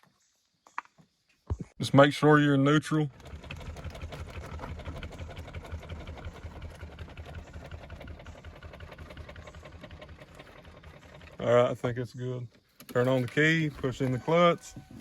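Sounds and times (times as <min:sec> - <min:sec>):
car engine idling: 0:02.8 - 0:15.0.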